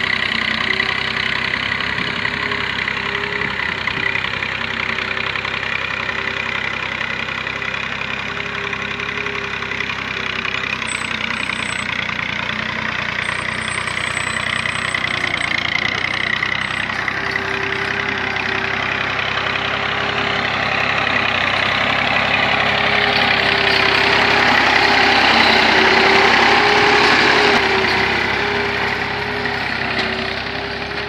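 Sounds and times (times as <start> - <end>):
tiller pulling through dry soil: 0.0 - 31.0
tractor diesel engine running: 0.0 - 31.0.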